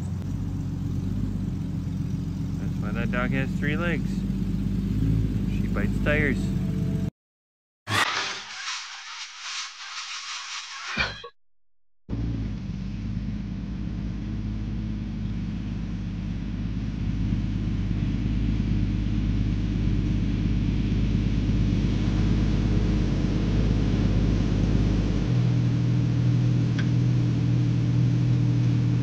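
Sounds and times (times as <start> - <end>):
car engine idling: 0.0 - 7.1, 12.1 - 29.0.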